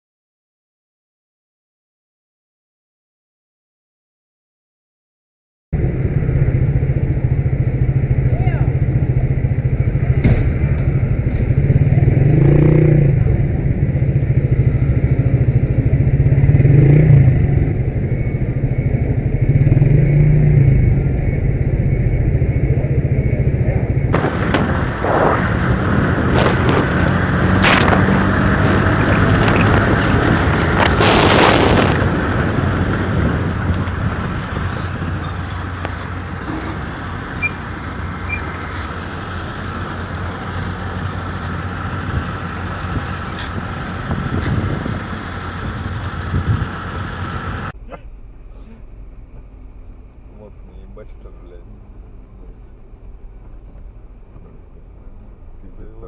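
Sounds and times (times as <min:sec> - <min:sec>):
car engine: 0:05.8 - 0:56.0
road noise inside moving car: 0:05.8 - 0:56.0.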